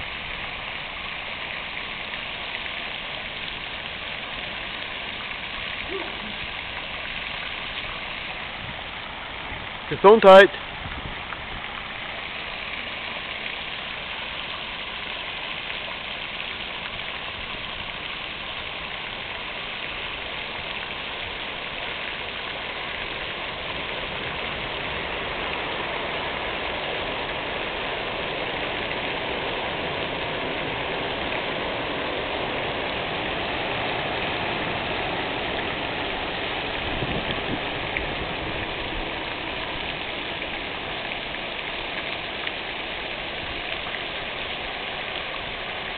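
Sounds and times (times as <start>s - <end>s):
fountain water splashing: 0.0s - 45.9s.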